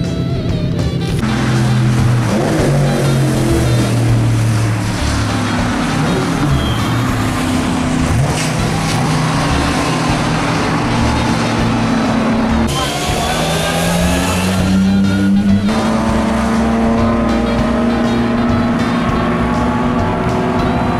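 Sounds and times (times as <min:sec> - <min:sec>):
racing car engines: 0:00.0 - 0:20.9.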